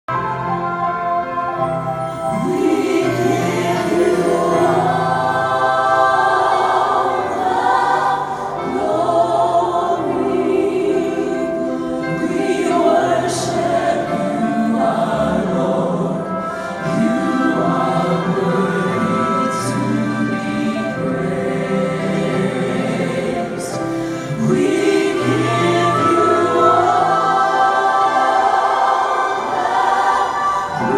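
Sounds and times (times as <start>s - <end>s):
choir singing: 0.1s - 30.9s.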